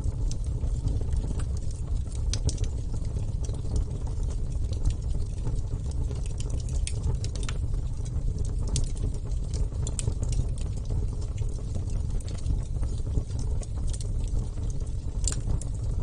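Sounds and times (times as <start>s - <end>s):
burning wood crackling and popping: 0.0s - 16.0s
rumble of flames: 0.0s - 16.0s.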